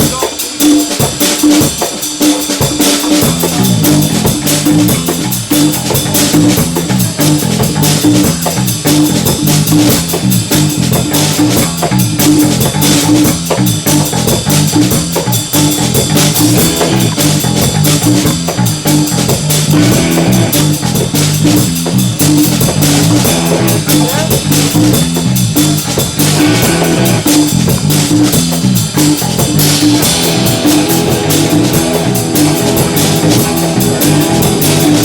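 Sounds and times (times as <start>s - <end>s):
jazzy instrumental music: 0.0s - 35.0s.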